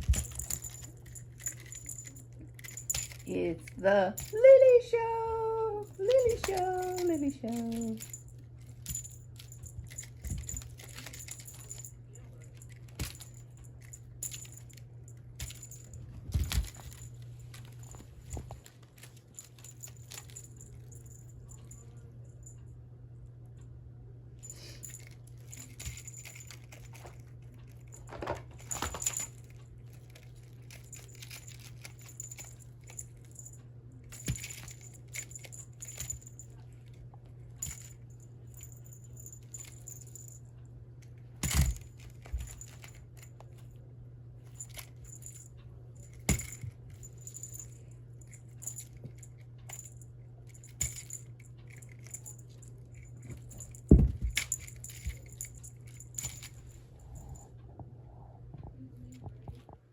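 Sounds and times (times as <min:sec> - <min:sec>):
light clinks and rattles: 0:00.0 - 0:22.8, 0:24.4 - 0:43.8, 0:44.4 - 0:57.6
steady low hum: 0:00.0 - 0:59.9.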